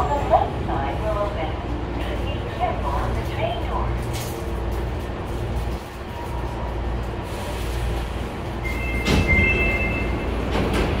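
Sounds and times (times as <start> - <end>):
train rolling with low rumble: 0.0 - 11.0.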